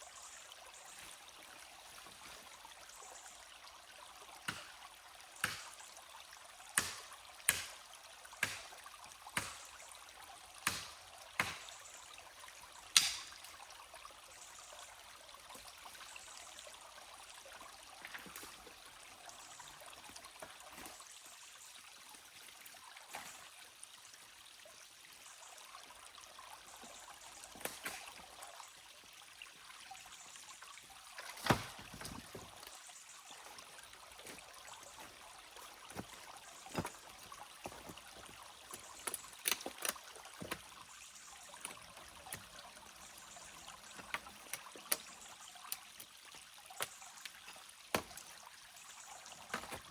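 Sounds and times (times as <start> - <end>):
stream trickling: 0.0 - 49.9.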